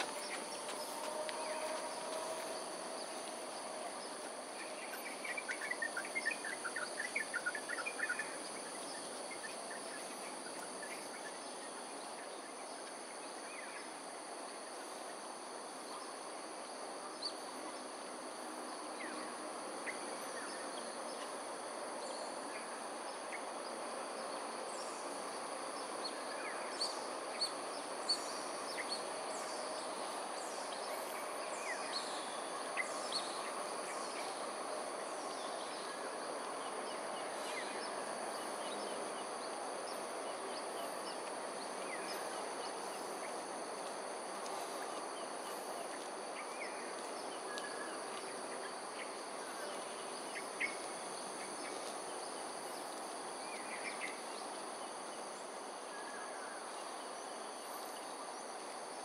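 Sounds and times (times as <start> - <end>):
background hum: 0.0 - 59.0
insect drone: 0.0 - 59.0.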